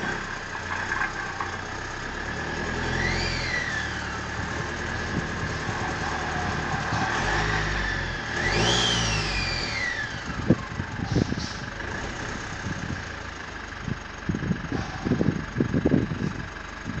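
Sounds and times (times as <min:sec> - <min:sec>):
diesel engine idling and revving: 0:00.0 - 0:17.0
engine whine: 0:00.0 - 0:17.0.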